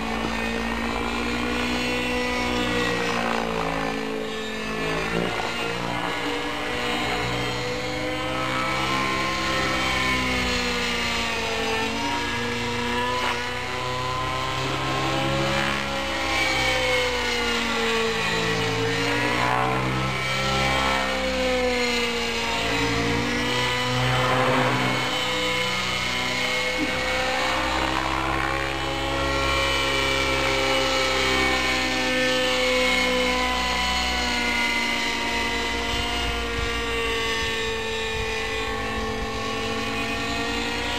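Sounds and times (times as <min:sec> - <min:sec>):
model helicopter engine whine: 0:00.0 - 0:40.9.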